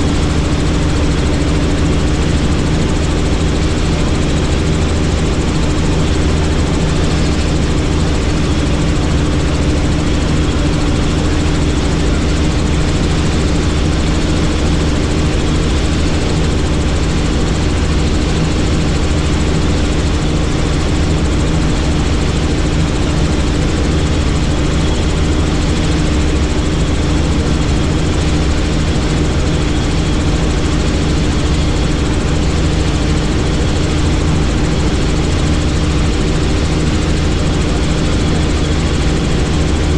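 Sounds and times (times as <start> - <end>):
helicopter turbine and rotors: 0.0 - 39.9.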